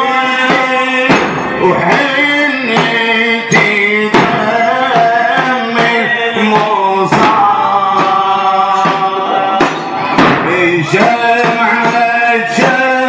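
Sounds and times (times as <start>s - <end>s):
man chanting a lament: 0.0s - 13.0s
steady drum beat: 0.0s - 13.0s.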